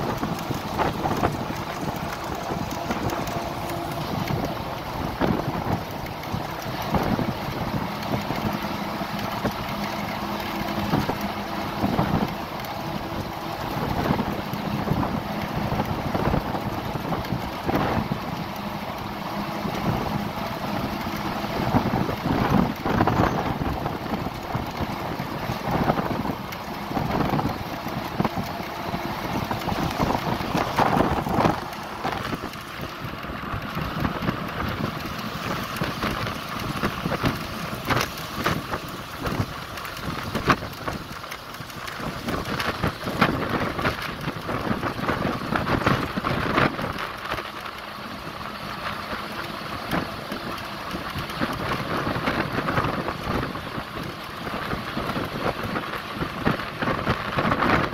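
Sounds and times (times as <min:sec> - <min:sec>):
vehicle road noise: 0:00.0 - 0:57.9
wind buffeting microphone: 0:00.0 - 0:57.9.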